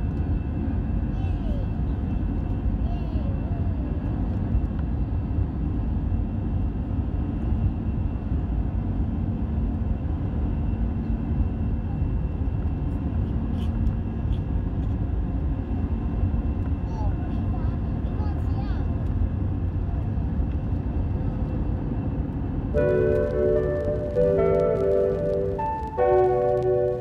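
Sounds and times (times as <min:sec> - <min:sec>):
airliner engine hum in cabin: 0:00.0 - 0:27.0.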